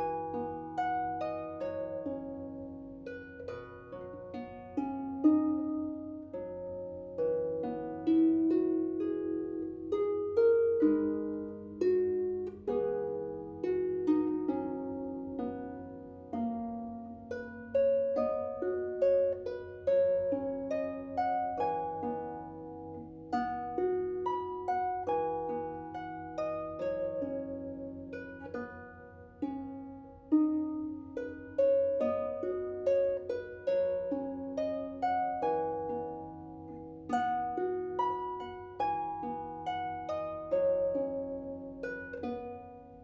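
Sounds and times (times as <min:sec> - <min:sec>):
solo harp melody: 0:00.0 - 0:43.0.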